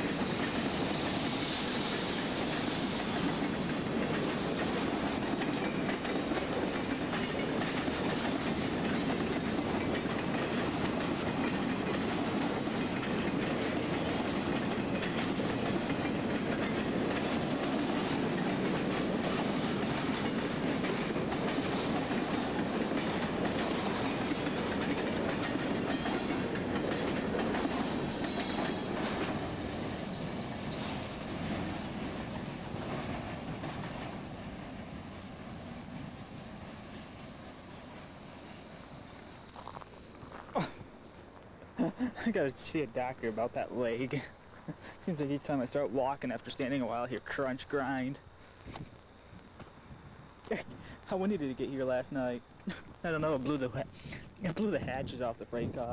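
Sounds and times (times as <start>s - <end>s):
freight train rolling by: 0.0s - 55.9s
steel wheels clacking over rail joints: 0.0s - 55.9s.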